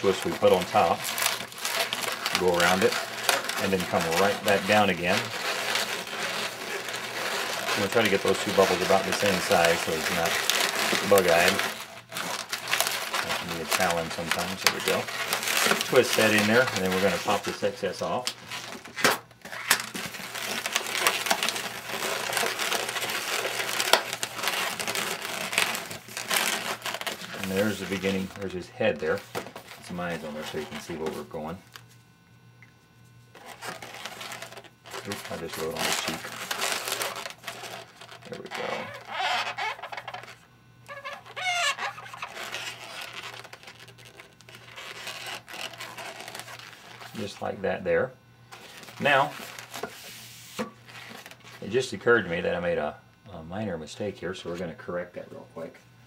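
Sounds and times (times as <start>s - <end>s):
balloons rubbing and squeaking: 0.0s - 31.6s, 33.3s - 47.5s, 48.5s - 51.8s.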